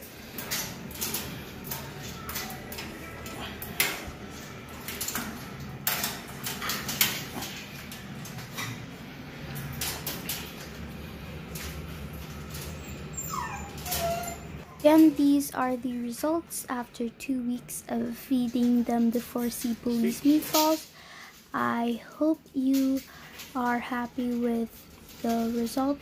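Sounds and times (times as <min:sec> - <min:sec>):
wire dog cages rattling: 0:00.0 - 0:15.4, 0:18.4 - 0:20.9, 0:22.5 - 0:26.0.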